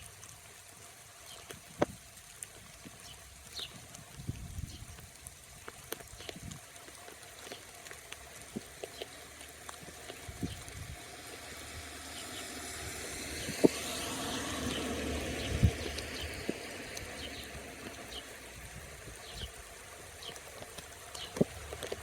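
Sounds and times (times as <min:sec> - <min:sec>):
rain falling: 0:00.0 - 0:22.0
raindrop hits: 0:00.0 - 0:22.0.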